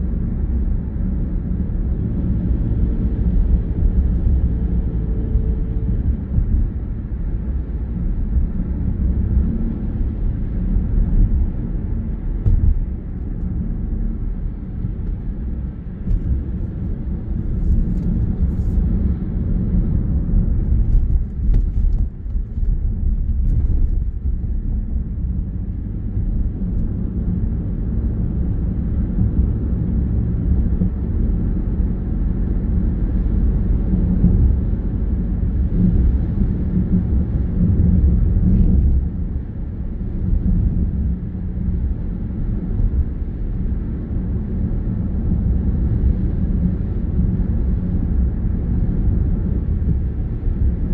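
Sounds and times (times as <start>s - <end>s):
tyre road noise: 0.0s - 50.9s.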